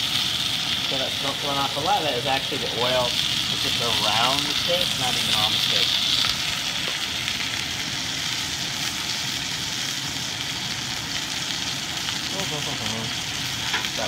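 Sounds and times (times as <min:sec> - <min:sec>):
steak sizzling in a pan: 0:00.0 - 0:14.0.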